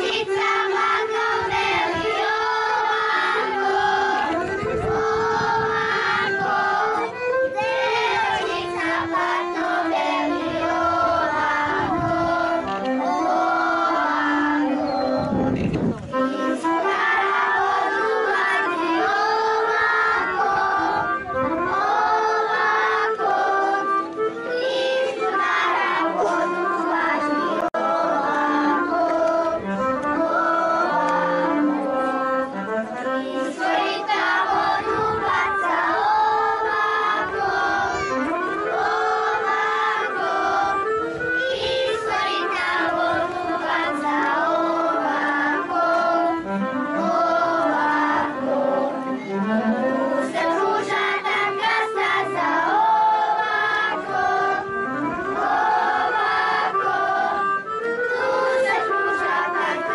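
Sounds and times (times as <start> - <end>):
children singing folk song: 0.0 - 59.9.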